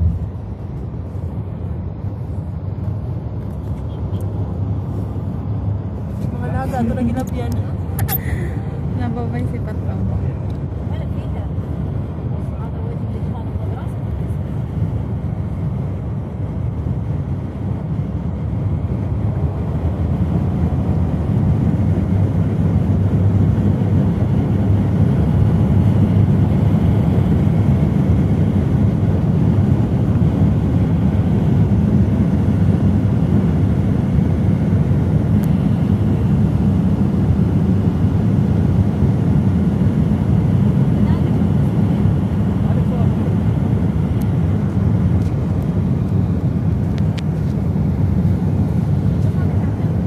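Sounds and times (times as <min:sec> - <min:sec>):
car road and wind noise: 0:00.0 - 0:50.0.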